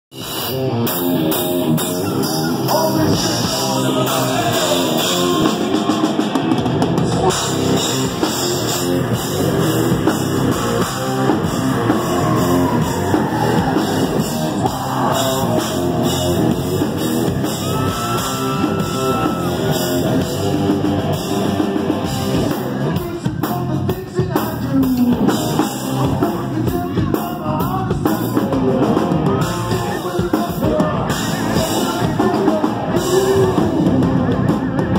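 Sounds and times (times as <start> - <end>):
electric guitar: 0.1 - 34.9
pounding drum kit: 0.1 - 34.9
man singing: 2.1 - 21.2, 21.8 - 34.9.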